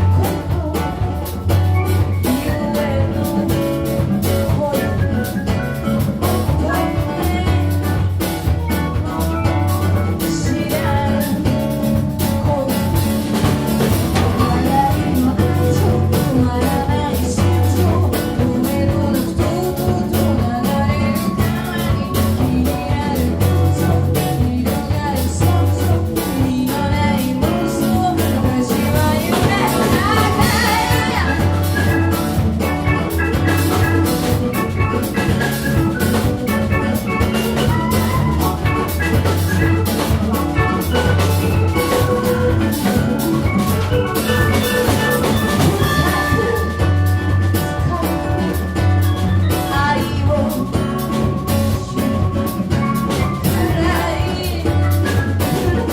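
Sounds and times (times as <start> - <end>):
drums: 0.0 - 55.9.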